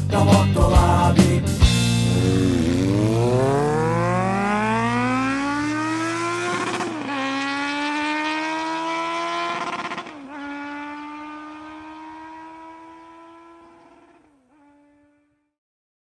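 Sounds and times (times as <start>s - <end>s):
motorcycle engine accelerating: 0.0s - 15.5s.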